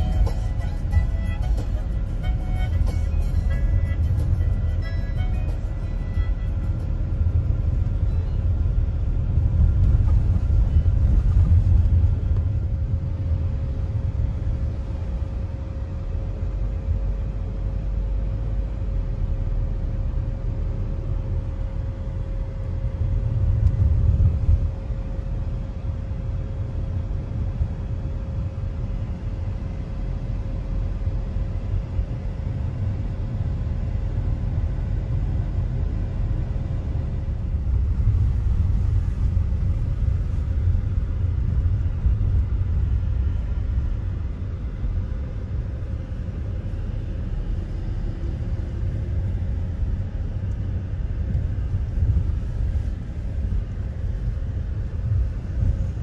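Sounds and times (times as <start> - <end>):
car road rumble: 0.0 - 56.0.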